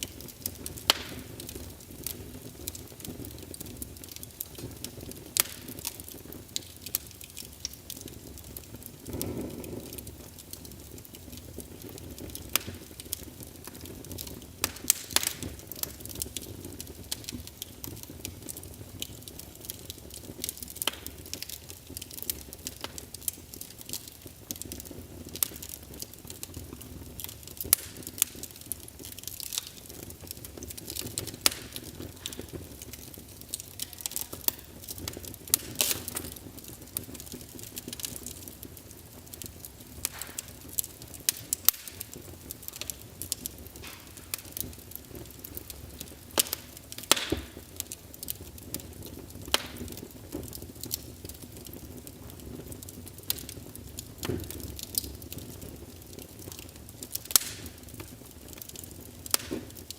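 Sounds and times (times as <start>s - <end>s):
logs crackling in fireplace: 0.0s - 59.9s
low rush of flame: 0.0s - 59.9s
sharp fire pops: 0.0s - 59.9s.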